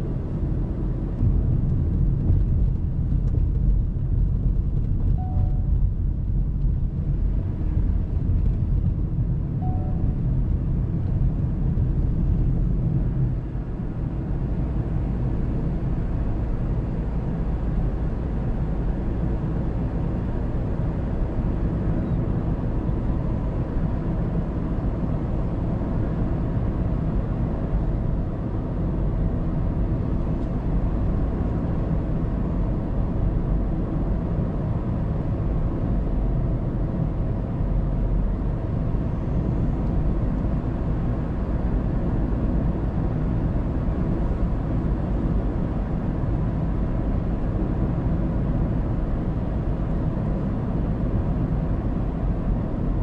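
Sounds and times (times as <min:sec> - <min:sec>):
car engine: 0:00.0 - 0:53.0.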